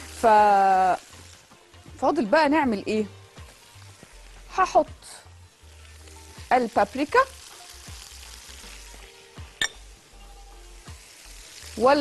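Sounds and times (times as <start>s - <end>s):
meat and vegetables sizzling: 0.0s - 12.0s.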